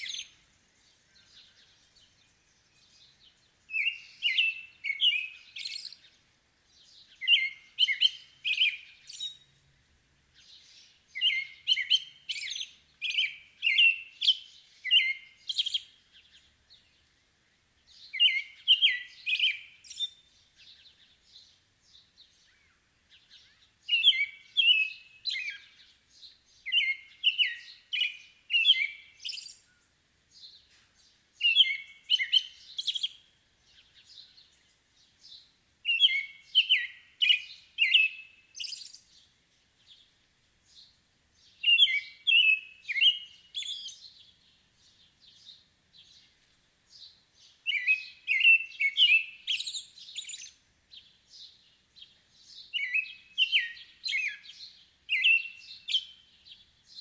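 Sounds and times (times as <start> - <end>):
soft high bird calls: 0.0 - 9.7, 10.3 - 17.3, 17.9 - 40.1, 40.7 - 57.0
songbird chirping: 0.0 - 57.0.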